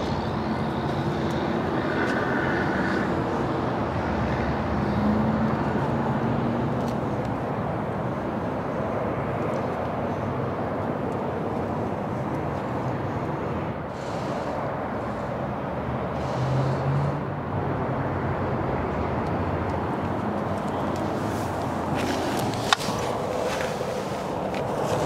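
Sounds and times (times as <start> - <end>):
outdoor background hum and hiss: 0.0 - 25.0.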